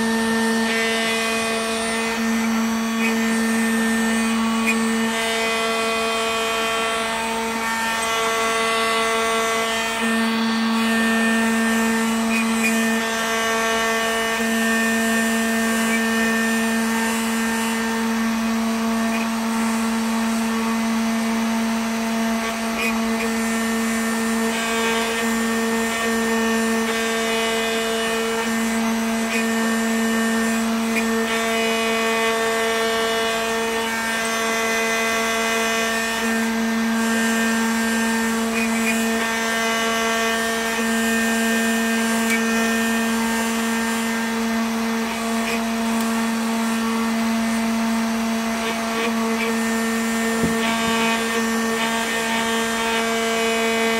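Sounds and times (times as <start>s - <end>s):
router motor hum: 0.0s - 53.9s.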